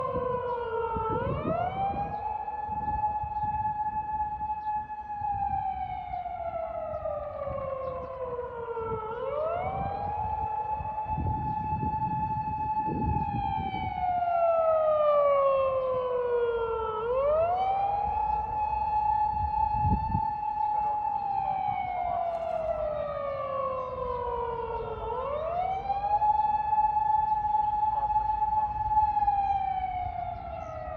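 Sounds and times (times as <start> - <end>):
siren wailing: 0.0 - 30.9.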